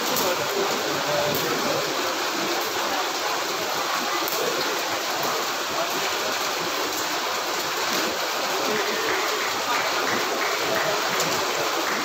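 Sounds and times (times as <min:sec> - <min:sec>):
rain drumming on metal roof: 0:00.0 - 0:12.0.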